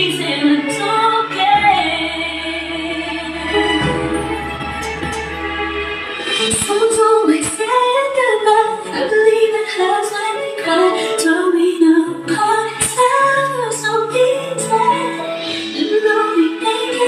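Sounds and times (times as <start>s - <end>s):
pop song with woman singing: 0.0s - 5.1s, 6.2s - 17.0s.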